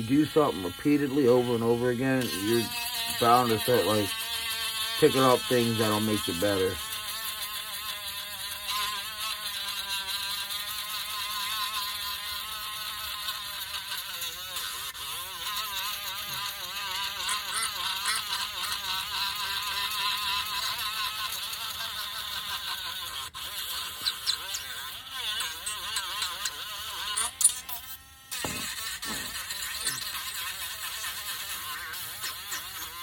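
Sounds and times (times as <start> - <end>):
electric sander on wood: 0.0 - 33.0.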